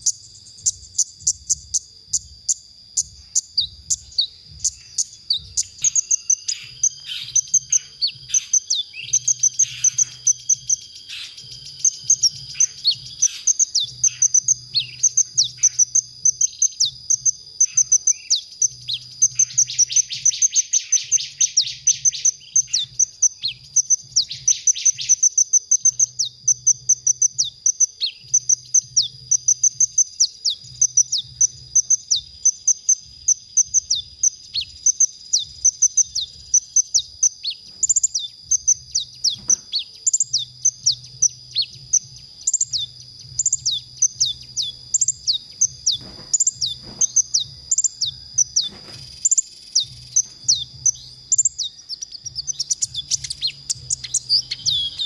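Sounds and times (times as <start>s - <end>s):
bird chirping: 0.0s - 55.0s
fast buzzy bird trill: 0.0s - 55.0s.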